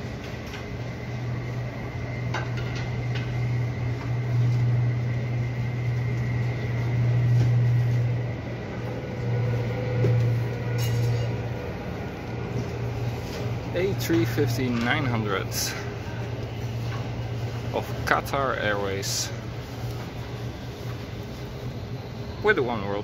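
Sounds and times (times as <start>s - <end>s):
muffled jet engines hum: 0.0s - 23.0s
thin high whine: 0.0s - 23.0s.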